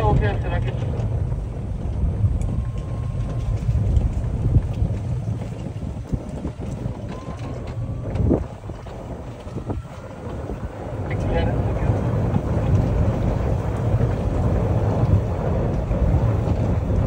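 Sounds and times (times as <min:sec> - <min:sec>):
golf cart rumbling: 0:00.0 - 0:17.0
knocks and rattles over paving: 0:00.0 - 0:17.0
wind buffeting microphone: 0:00.0 - 0:17.0.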